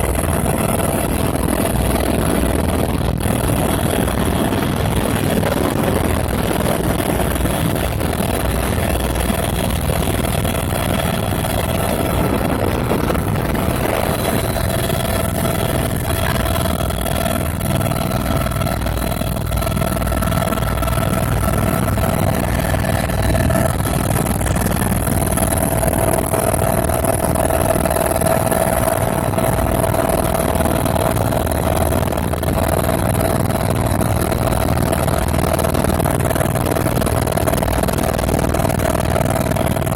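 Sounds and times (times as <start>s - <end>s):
helicopter engine whine: 0.0s - 39.9s
helicopter rotor rumble: 0.0s - 39.9s.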